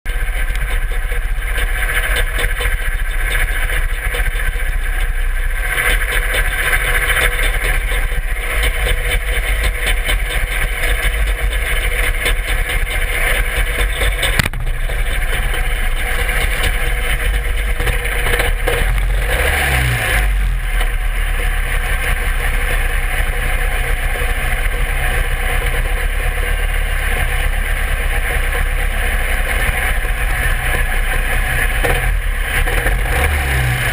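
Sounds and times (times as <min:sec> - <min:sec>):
tractor engine running at high revs: 0:00.0 - 0:33.9.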